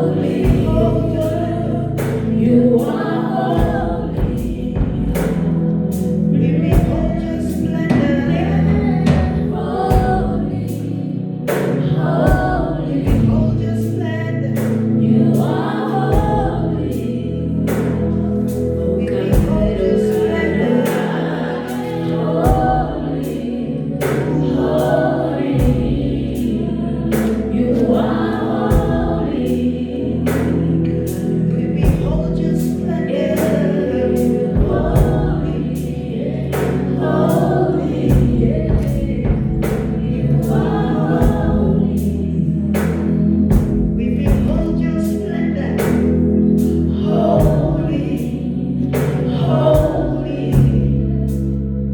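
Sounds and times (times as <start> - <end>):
steady drum beat: 0.0 - 13.9, 16.1 - 17.0, 19.2 - 48.2, 49.0 - 51.2
band playing: 0.0 - 51.6
choir singing gospel: 0.0 - 51.9
sustained bass line: 0.0 - 51.9.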